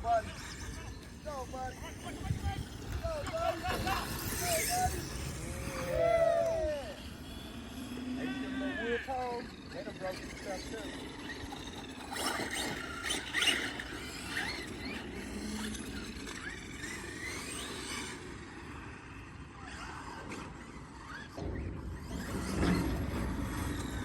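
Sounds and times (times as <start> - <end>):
electric motor whining: 0.0 - 19.7.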